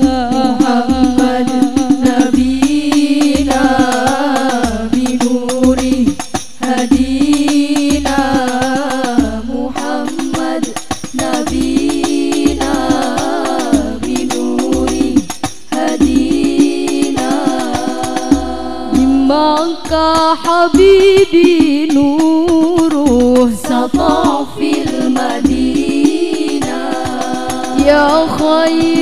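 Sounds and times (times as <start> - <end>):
frame drums beating: 0.0 - 29.0
women singing devotional song: 0.0 - 29.0.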